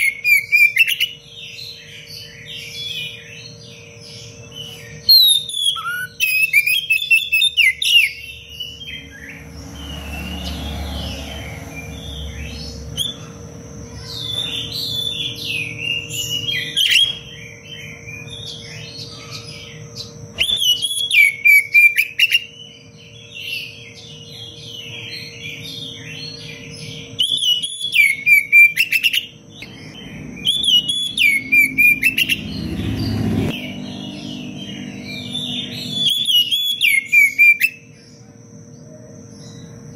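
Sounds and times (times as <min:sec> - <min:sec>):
songbird whistling and trilling: 0:00.0 - 0:13.4, 0:14.1 - 0:38.0.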